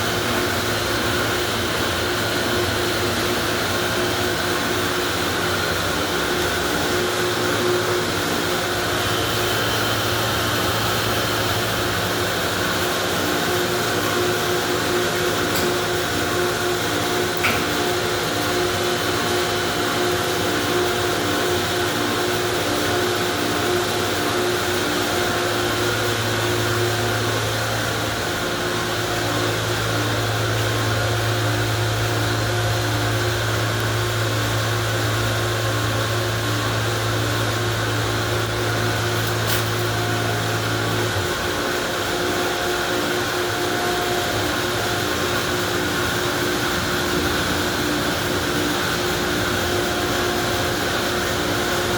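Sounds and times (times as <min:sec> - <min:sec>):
car wash pumps and motors: 0:00.0 - 0:51.9.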